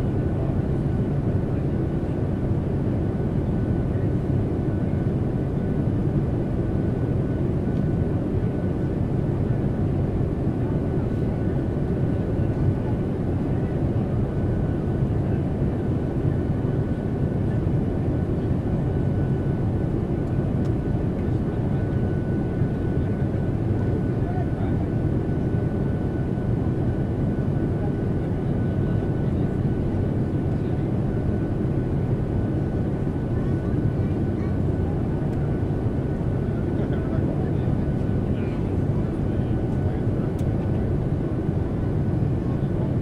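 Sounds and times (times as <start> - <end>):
airplane engine rumble: 0.0 - 43.0.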